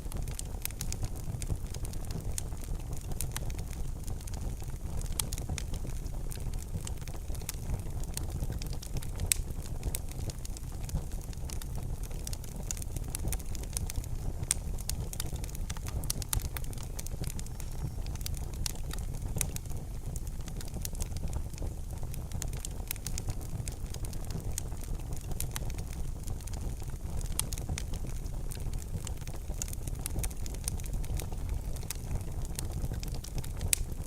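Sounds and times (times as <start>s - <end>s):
wood fire crackling in fireplace: 0.0s - 34.0s.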